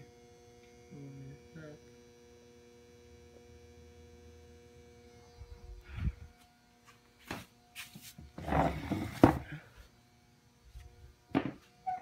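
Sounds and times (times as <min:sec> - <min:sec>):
electrical hum from lights: 0:00.0 - 0:12.0.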